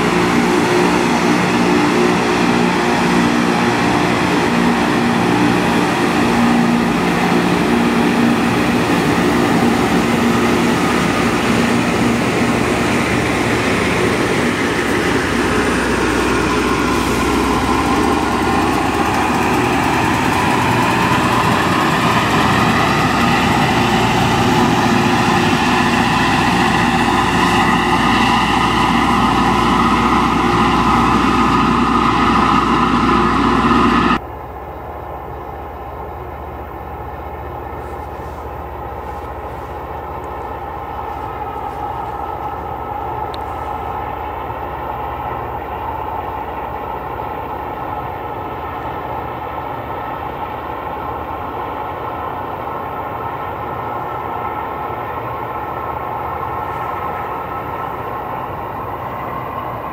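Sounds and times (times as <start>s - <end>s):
distant train drone: 0.0s - 59.9s
rail grinder machinery din: 0.0s - 59.9s.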